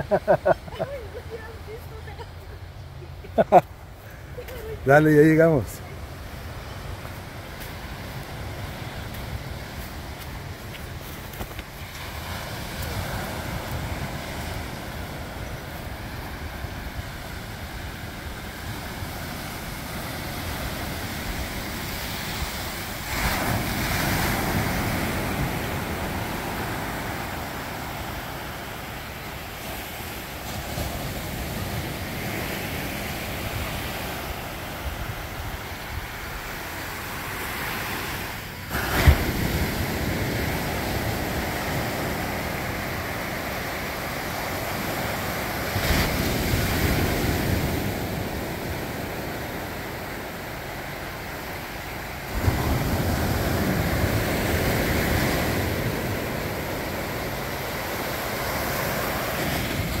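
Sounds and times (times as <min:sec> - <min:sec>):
ocean surf breaking: 0:00.0 - 1:00.0.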